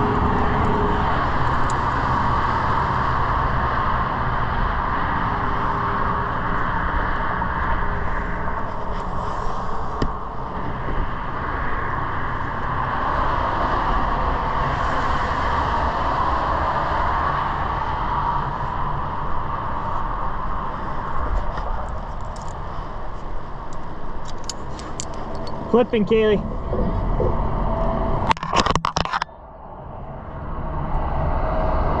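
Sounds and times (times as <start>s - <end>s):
highway traffic: 0.0s - 32.0s.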